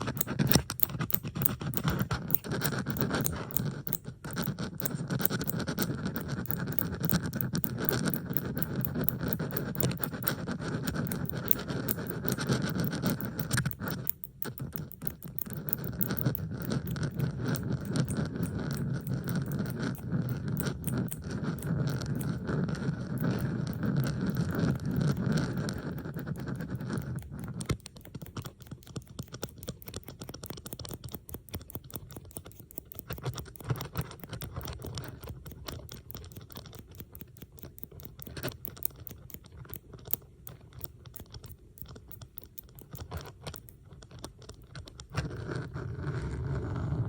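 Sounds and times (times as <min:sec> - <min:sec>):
bobby pins clicking and scraping: 0:00.0 - 0:47.0.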